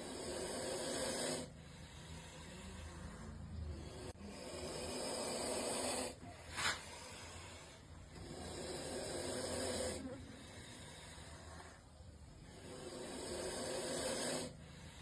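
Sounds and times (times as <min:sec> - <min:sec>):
snake hissing: 0:00.0 - 0:15.0.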